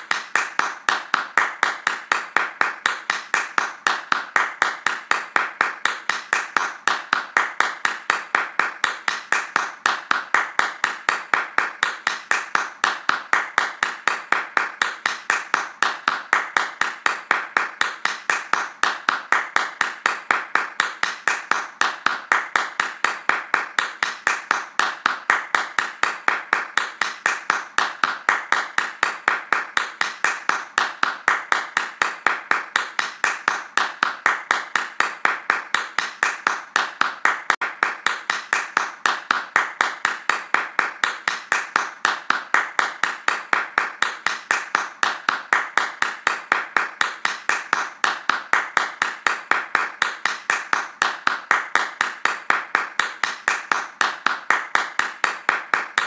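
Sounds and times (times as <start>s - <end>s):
hands clapping fast: 0.0s - 56.0s.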